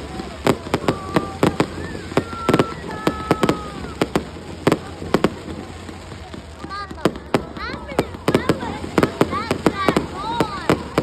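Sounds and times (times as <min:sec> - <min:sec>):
fireworks bangs: 0:00.0 - 0:11.0
fireworks whistling: 0:00.0 - 0:11.0.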